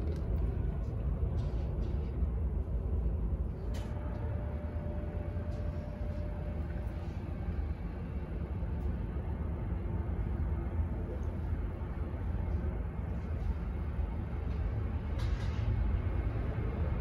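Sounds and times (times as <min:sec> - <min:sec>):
low rumble of airport noise: 0:00.0 - 0:17.0.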